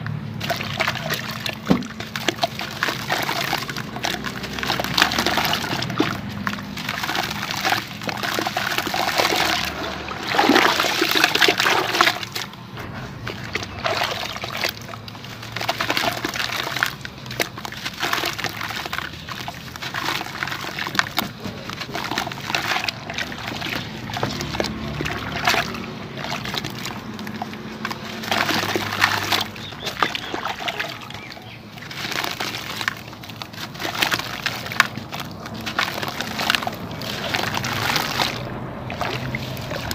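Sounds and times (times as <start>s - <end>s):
water sloshing and splashing: 0.0s - 39.9s
gritty crumbling: 0.4s - 39.9s.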